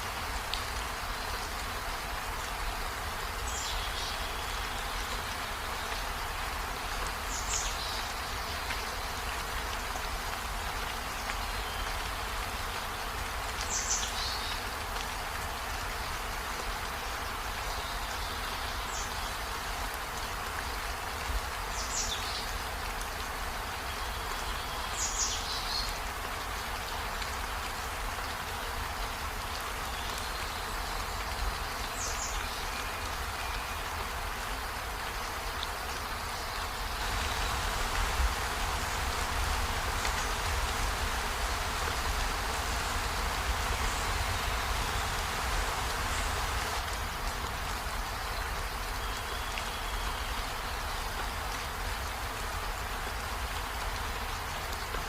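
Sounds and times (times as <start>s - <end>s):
rain on foliage and window: 0.0s - 55.0s.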